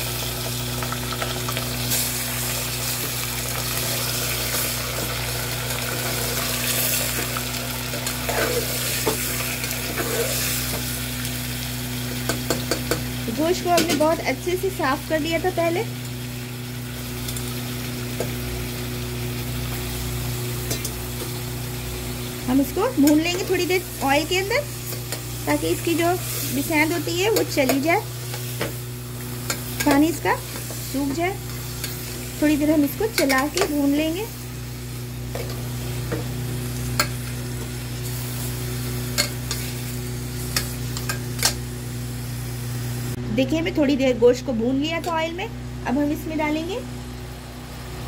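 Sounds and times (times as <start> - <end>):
meat sizzling in hot oil: 0.0 - 43.2
steady low hum: 1.7 - 48.0.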